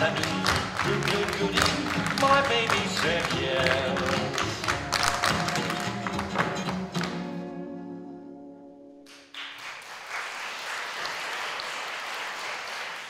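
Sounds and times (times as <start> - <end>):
audience applause: 0.0 - 7.2, 9.1 - 13.0.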